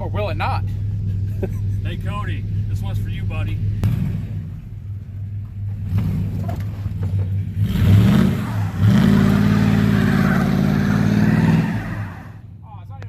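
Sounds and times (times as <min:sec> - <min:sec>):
vehicle engine idling and revving: 0:00.0 - 0:13.0.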